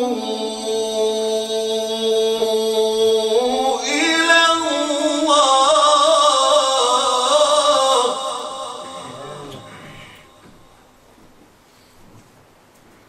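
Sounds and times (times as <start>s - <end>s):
man chanting melodically: 0.0s - 10.9s.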